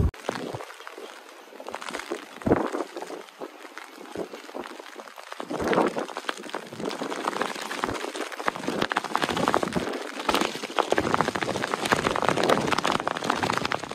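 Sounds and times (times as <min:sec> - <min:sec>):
rain falling: 0:00.0 - 0:13.9.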